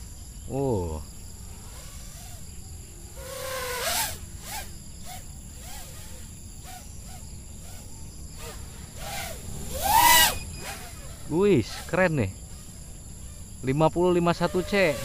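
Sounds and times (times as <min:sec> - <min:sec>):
quadcopter motors whining: 0:00.0 - 0:15.0
quadcopter rush: 0:00.0 - 0:15.0.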